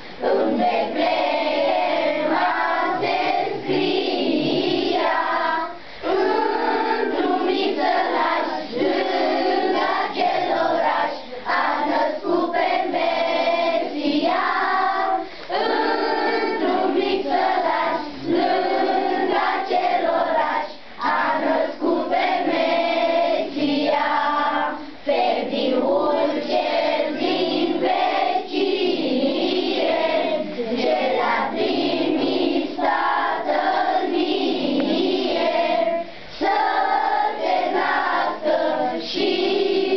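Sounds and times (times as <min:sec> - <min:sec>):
children singing in chorus: 0:00.0 - 0:39.9.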